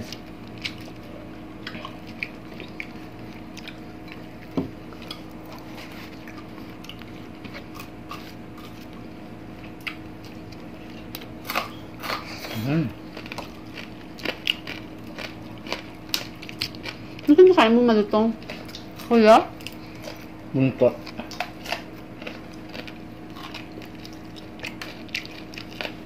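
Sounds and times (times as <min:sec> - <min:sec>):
faint steady hum: 0:00.0 - 0:26.0
chewing and mouth smacks: 0:00.1 - 0:09.0, 0:09.6 - 0:17.3, 0:18.4 - 0:20.3, 0:21.0 - 0:26.0.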